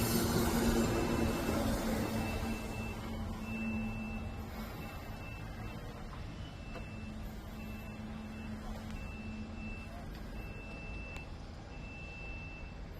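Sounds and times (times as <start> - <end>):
diesel engine rumble: 0.0 - 12.9
truck reversing alarm beeping: 0.0 - 12.9.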